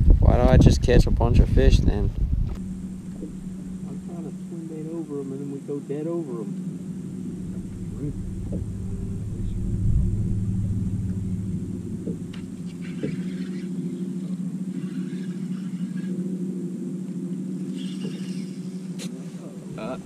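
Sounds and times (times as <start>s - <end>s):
electric trolling motor humming: 0.0s - 20.0s
low rumble: 0.0s - 20.0s.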